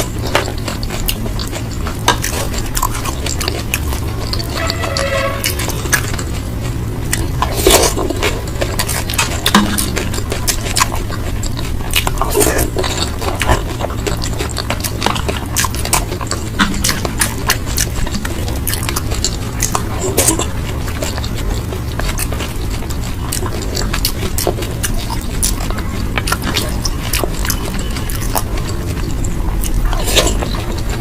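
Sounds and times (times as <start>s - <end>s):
chewing and mouth smacks: 0.0s - 31.0s
steady low hum: 0.0s - 31.0s.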